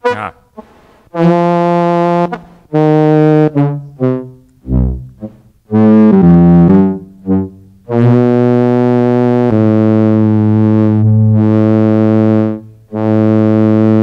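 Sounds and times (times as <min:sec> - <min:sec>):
brassy synthesizer notes: 0:00.0 - 0:14.0.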